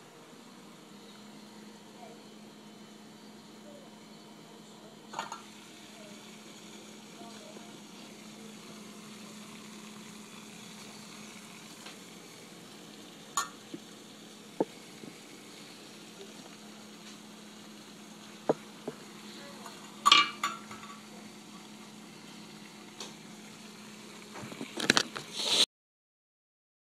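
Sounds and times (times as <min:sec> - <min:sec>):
faint low hum: 0:00.0 - 0:22.0
water sizzling hiss in pot: 0:00.6 - 0:25.7.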